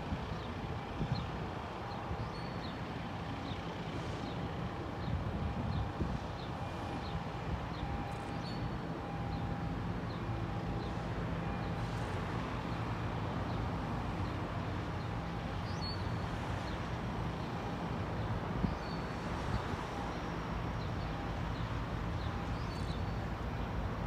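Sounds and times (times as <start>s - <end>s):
distant locomotive engine rumble: 0.0s - 24.0s.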